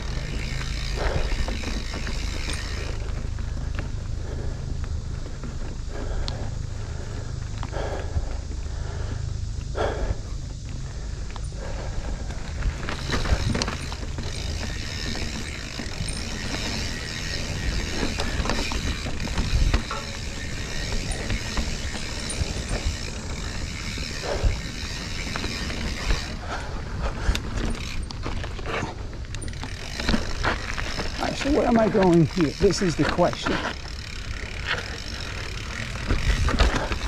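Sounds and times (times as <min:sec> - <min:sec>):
bicycle freewheel ratcheting: 0:00.0 - 0:37.0
bike rattling: 0:00.0 - 0:37.0.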